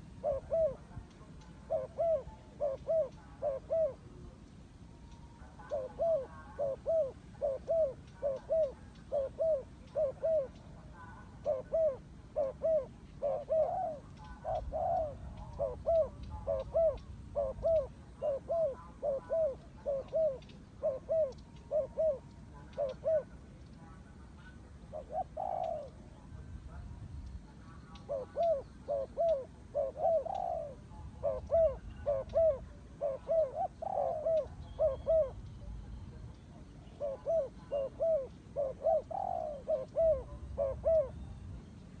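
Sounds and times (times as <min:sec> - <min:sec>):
turtle dove cooing: 0:00.0 - 0:42.0.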